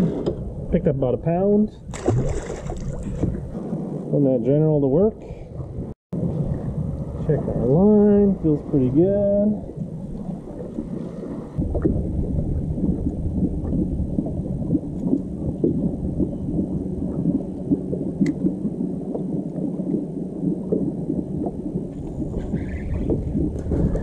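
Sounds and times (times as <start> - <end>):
wind buffeting microphone: 0.0 - 24.0
water lapping against hull: 1.3 - 4.2, 5.2 - 24.0.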